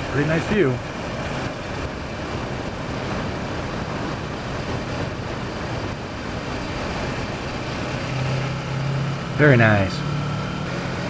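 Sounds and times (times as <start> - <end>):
gusty wind on microphone: 0.0 - 10.8.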